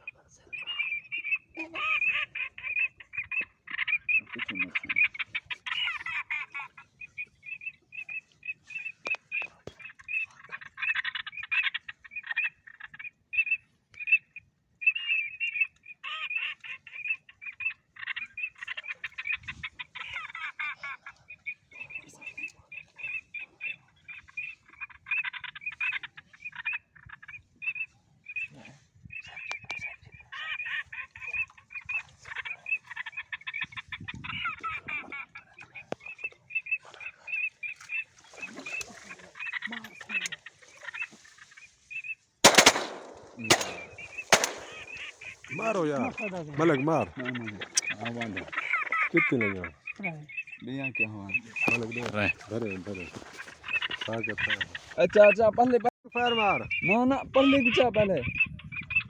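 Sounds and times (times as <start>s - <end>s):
ducks calling: 0.0s - 59.0s.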